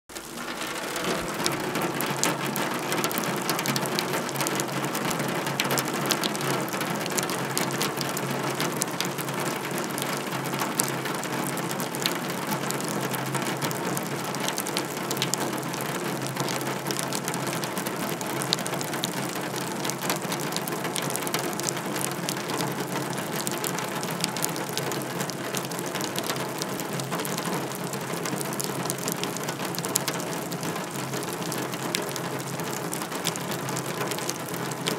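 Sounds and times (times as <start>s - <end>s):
rain pattering on metal: 0.1s - 34.9s.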